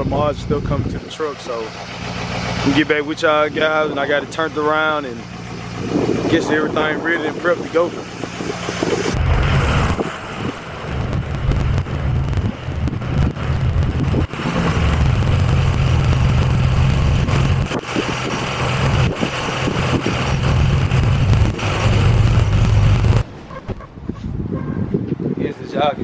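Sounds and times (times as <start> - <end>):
diesel truck engine droning: 0.0 - 24.4.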